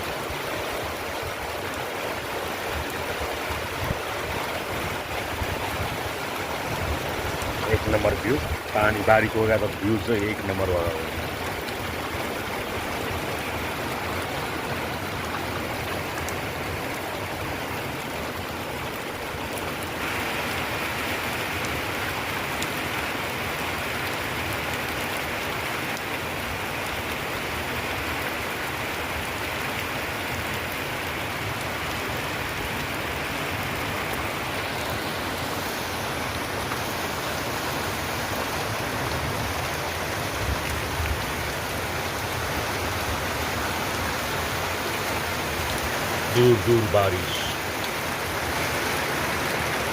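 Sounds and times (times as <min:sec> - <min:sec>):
heavy rain hissing: 0:00.0 - 0:49.9.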